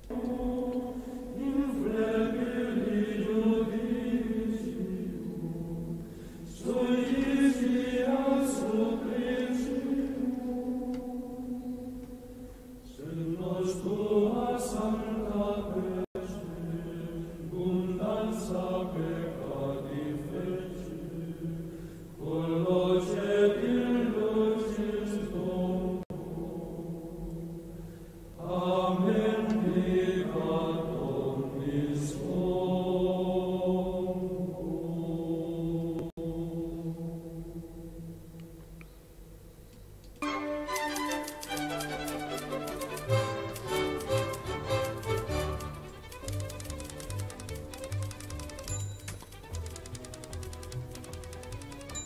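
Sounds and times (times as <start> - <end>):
choral chant: 0.0 - 38.7, 40.5 - 46.2.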